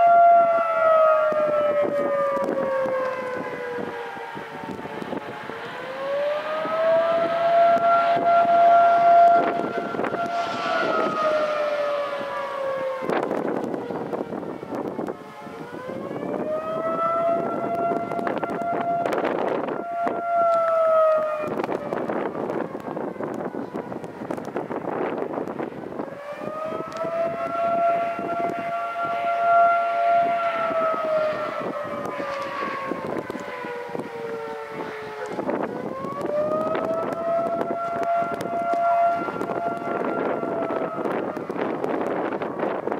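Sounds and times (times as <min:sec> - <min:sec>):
dual-tone warning siren: 0:00.0 - 0:42.9
wind buffeting microphone: 0:00.0 - 0:42.9.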